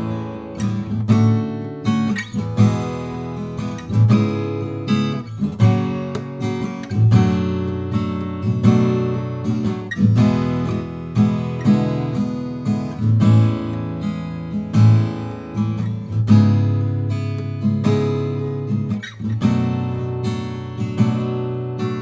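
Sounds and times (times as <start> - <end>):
acoustic guitar chords: 0.0 - 22.0.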